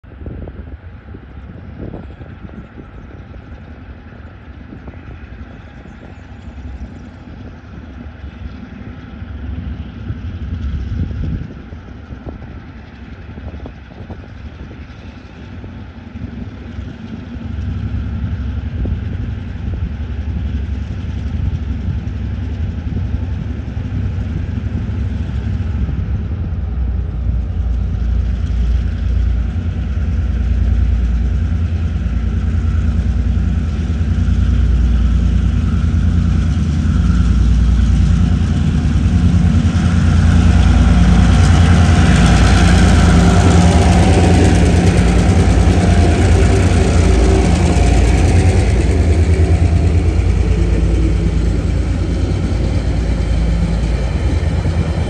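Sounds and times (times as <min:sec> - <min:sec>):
diesel locomotives rumbling: 0:00.0 - 0:55.0.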